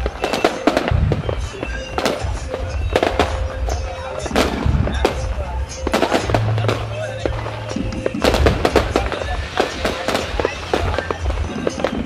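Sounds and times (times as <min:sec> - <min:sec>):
fireworks bangs and crackles: 0:00.0 - 0:12.0
deep rumble: 0:00.8 - 0:12.0.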